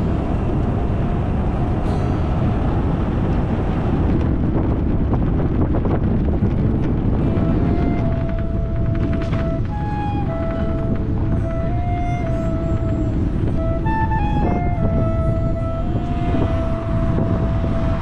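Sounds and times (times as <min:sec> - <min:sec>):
road and tyre rumble: 0:00.0 - 0:18.0
wind buffeting microphone: 0:00.0 - 0:18.0.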